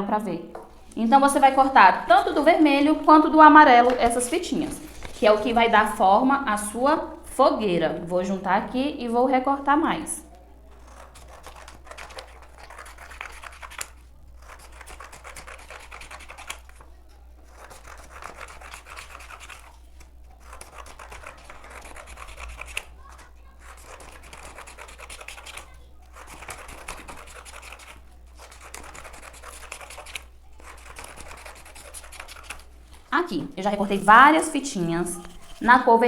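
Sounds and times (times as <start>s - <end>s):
scissors cutting paper: 0.7s - 7.2s, 9.6s - 36.0s.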